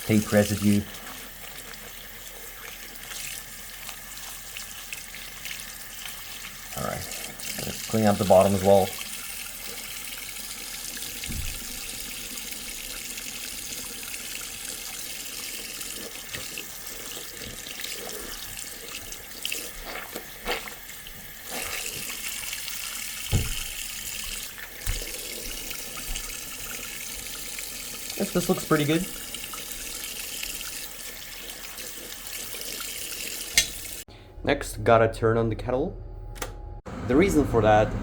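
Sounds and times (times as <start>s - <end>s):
tap water running into sink: 0.0s - 34.0s.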